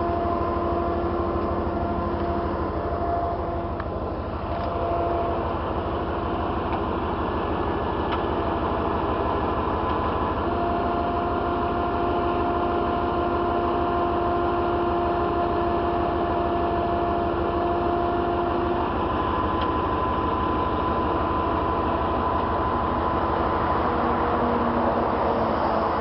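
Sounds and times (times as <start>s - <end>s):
diesel engine running: 0.0s - 26.0s
steady whine: 0.0s - 26.0s.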